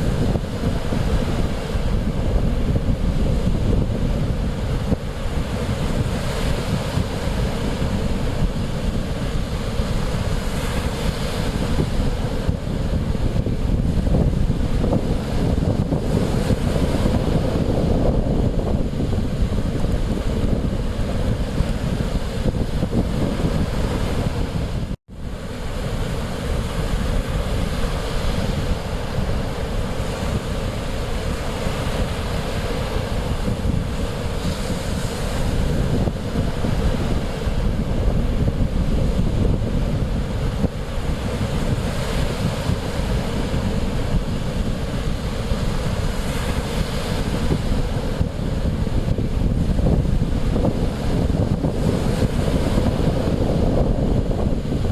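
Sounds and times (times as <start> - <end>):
surf washing in: 0.0 - 54.9
wind buffeting microphone: 0.0 - 54.9.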